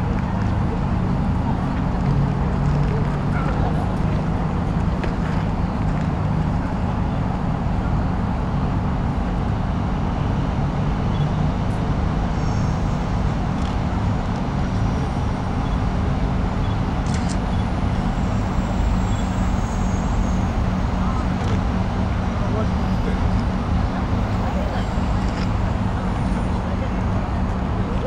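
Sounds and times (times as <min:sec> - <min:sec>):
low rumble of city traffic: 0:00.0 - 0:28.0.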